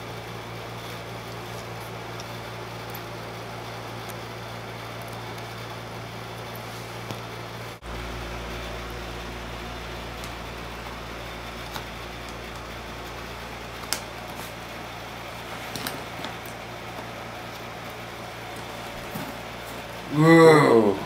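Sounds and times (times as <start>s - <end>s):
fan-like room hum: 0.0s - 21.0s.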